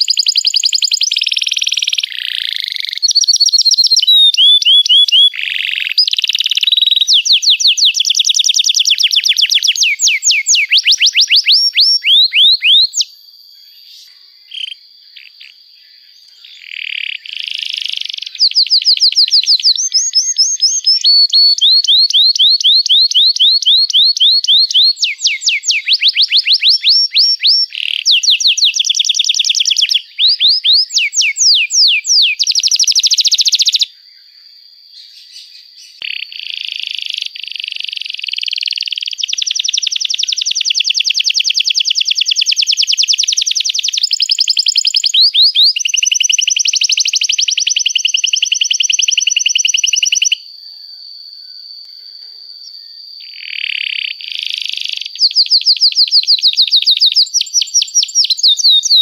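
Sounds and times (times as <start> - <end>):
canary singing trills: 0.0 - 50.4, 52.5 - 59.0.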